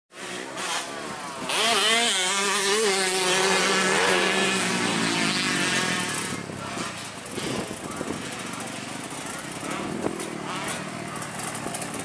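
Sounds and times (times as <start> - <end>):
dirt bike engine revving: 0.2 - 12.0.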